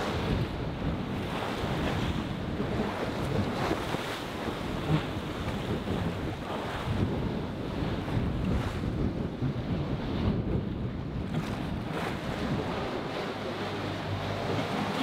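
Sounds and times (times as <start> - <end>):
sea waves: 0.0 - 15.0
wind on microphone: 0.0 - 15.0.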